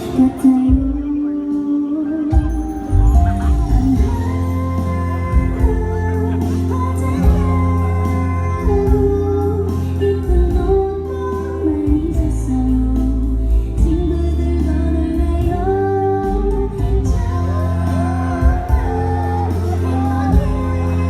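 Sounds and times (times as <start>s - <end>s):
amplified backing music: 0.0s - 21.0s
woman singing a pop ballad: 0.0s - 21.0s
steady low bass: 2.9s - 21.0s.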